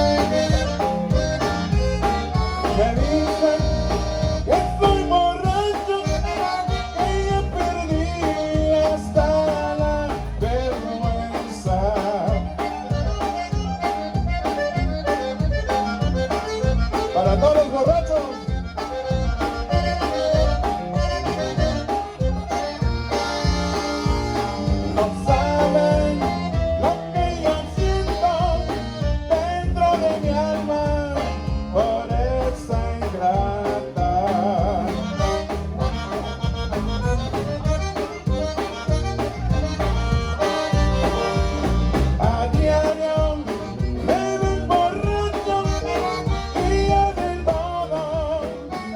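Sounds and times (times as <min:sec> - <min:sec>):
bass and drum beat: 0:00.0 - 0:48.9
button accordion playing: 0:00.0 - 0:48.9.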